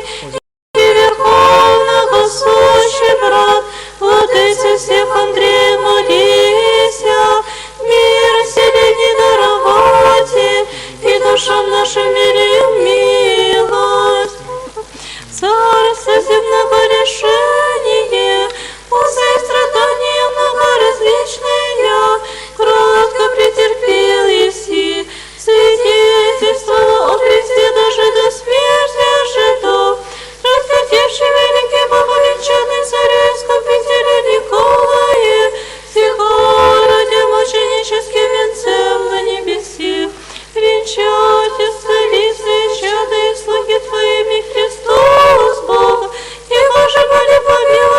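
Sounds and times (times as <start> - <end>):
choir singing a cappella: 0.0 - 47.9
steady low hum: 0.0 - 47.9.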